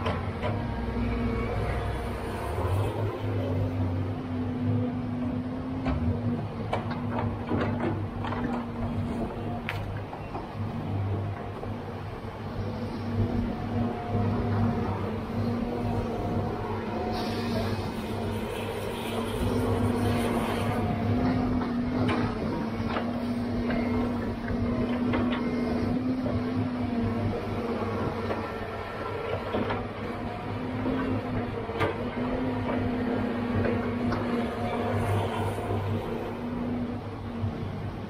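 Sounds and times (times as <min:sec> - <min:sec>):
diesel engine and hydraulics humming: 0:00.0 - 0:38.0.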